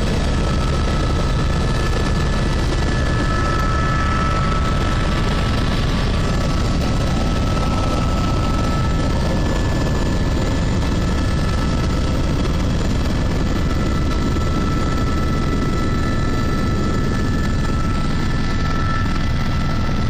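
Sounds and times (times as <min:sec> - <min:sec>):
helicopter rotor and engine drone: 0:00.0 - 0:20.0
high steady whine: 0:00.0 - 0:20.0.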